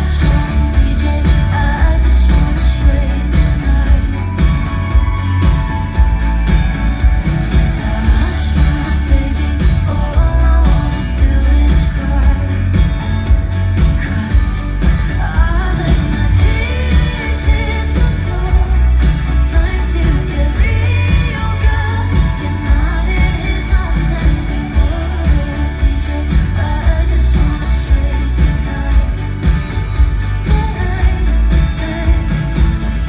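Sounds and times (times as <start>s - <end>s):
live pop band playing: 0.0s - 33.0s
woman singing: 0.0s - 33.0s.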